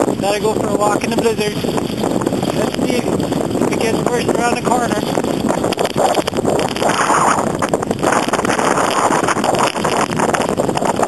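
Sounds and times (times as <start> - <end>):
wind blowing across microphone: 0.0 - 11.0.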